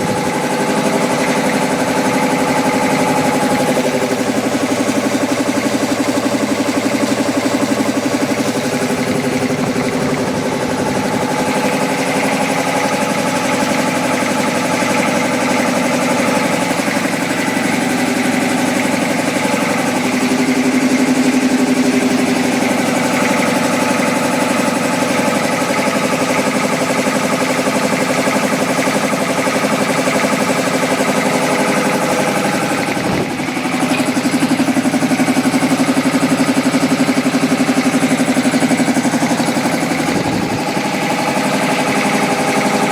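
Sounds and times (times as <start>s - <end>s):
air compressor running: 0.0s - 42.9s.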